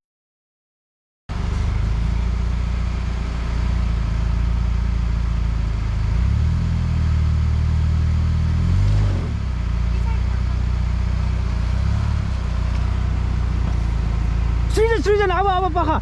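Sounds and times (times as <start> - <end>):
car engine revving: 1.3 - 16.0.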